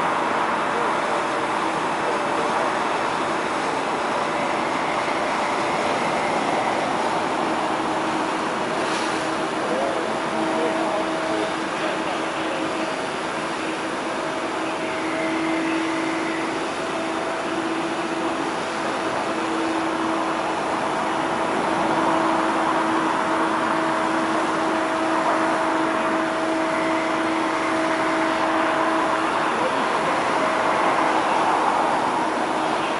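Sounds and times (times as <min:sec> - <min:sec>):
crane diesel engine running: 0:00.0 - 0:32.9.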